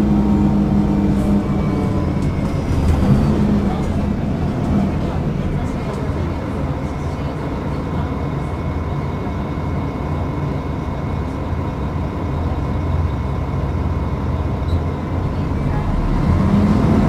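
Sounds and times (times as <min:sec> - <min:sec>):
bus diesel engine rumble: 0:00.0 - 0:17.0.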